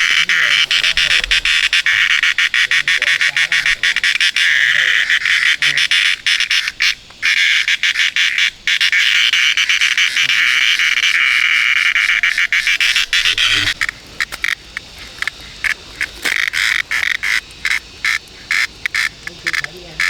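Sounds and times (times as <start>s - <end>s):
high-pitched animal chorus: 0.0s - 20.0s.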